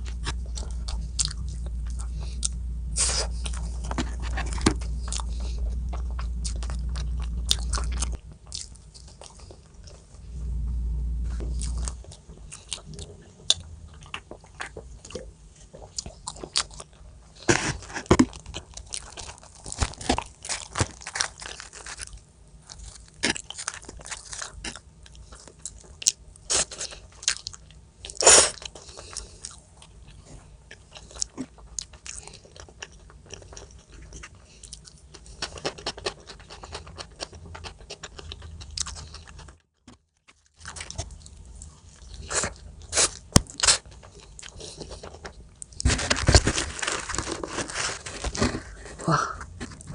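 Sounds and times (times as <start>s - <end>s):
chewing crunchy food: 0.0s - 10.2s, 11.4s - 49.9s
low steady rumble: 0.0s - 49.9s.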